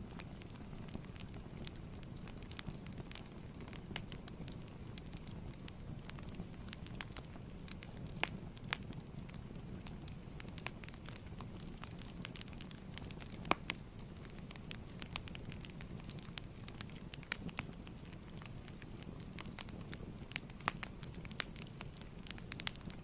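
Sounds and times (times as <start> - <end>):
wood fire crackling: 0.0 - 23.0
sharp pops from fire: 0.1 - 23.0.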